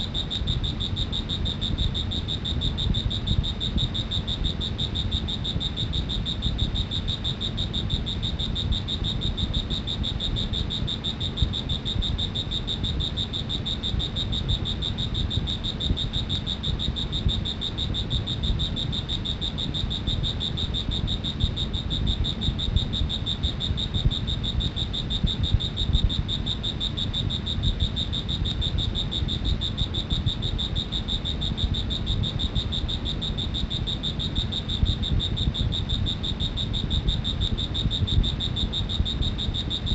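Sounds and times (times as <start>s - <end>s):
cricket trilling: 0.0s - 39.9s
low background rumble: 0.0s - 39.9s.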